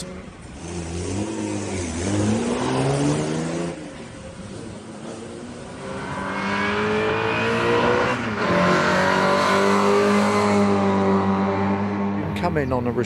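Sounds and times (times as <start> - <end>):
racing car engine at full throttle: 0.0 - 13.0.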